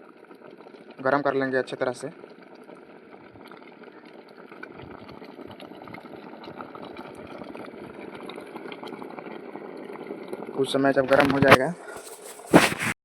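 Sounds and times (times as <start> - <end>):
water heating in a pot: 0.0 - 13.0.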